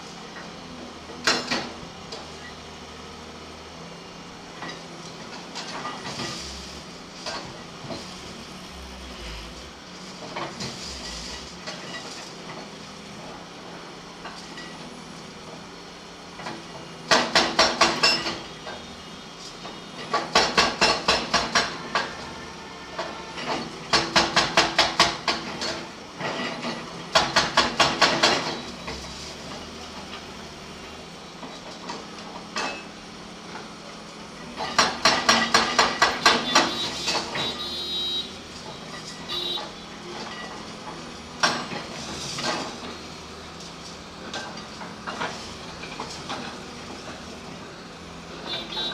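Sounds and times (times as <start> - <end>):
backhoe engine: 0.0 - 48.9.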